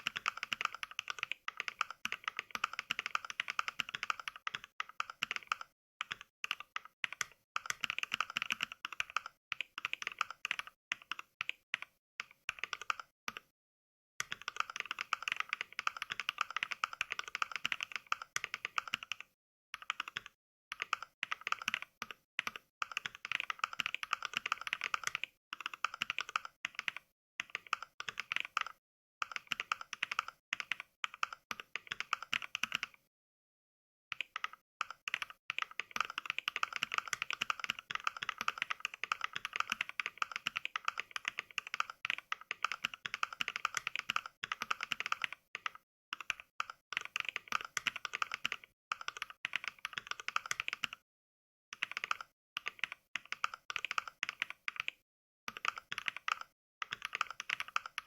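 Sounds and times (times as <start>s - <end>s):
mechanical keyboard typing: 0.0s - 13.5s, 14.2s - 33.1s, 34.1s - 51.0s, 51.7s - 58.0s.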